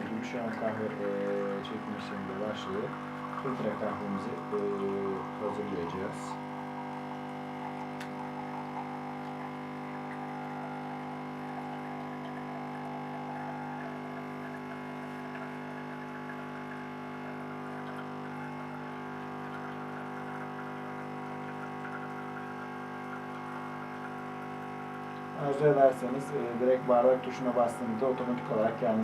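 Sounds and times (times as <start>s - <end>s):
coffee machine pump humming: 0.0s - 29.0s
coffee trickling into cup: 0.0s - 29.0s.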